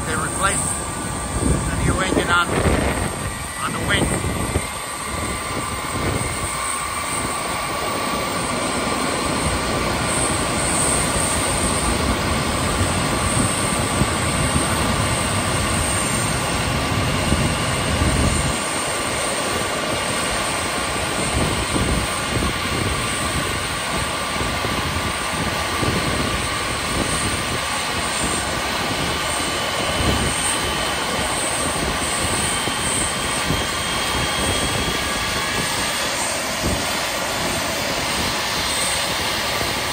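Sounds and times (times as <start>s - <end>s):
jet engine starting whine: 0.0s - 39.9s.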